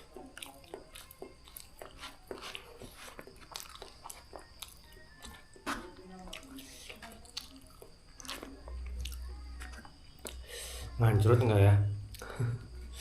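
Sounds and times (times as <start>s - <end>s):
person chewing noodles: 0.0s - 10.9s, 12.1s - 12.4s.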